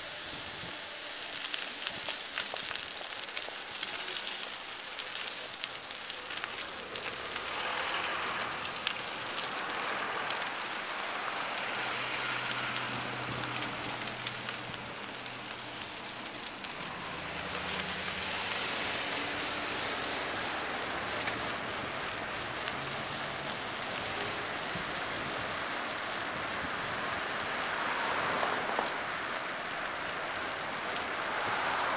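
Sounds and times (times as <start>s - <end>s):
bicycle riding on wet slushy street: 0.0s - 31.9s.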